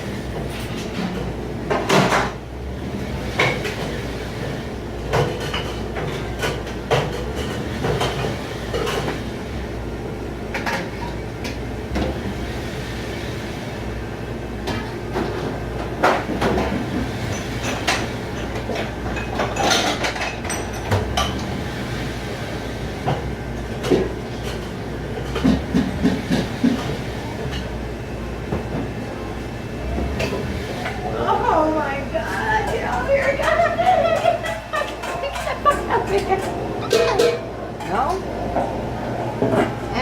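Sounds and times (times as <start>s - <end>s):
low machine drone: 0.0s - 5.3s, 6.0s - 35.1s
dishes and racks clattering: 0.0s - 40.0s.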